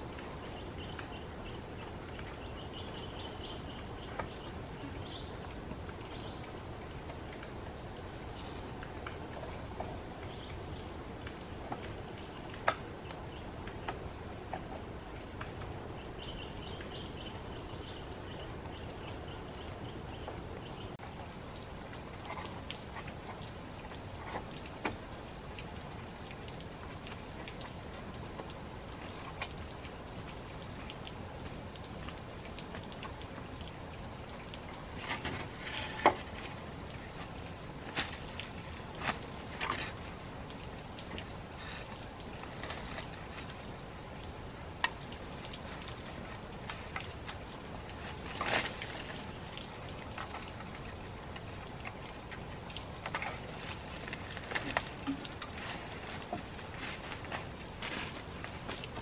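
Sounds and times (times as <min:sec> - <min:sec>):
background hiss: 0:00.0 - 0:59.0.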